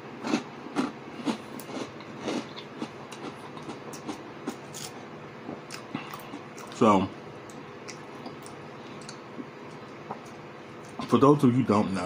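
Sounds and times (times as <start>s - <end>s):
chewing with wet mouth clicks: 0.2s - 6.8s, 7.4s - 11.1s.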